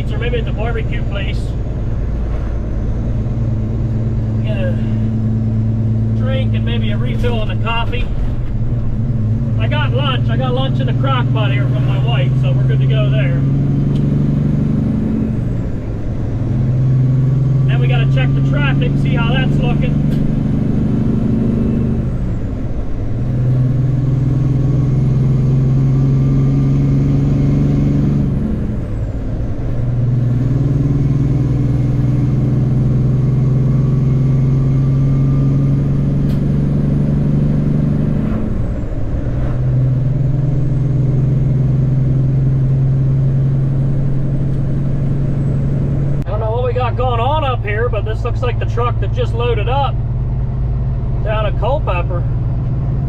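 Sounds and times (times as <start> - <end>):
truck diesel engine shifting gears: 0.0 - 53.0.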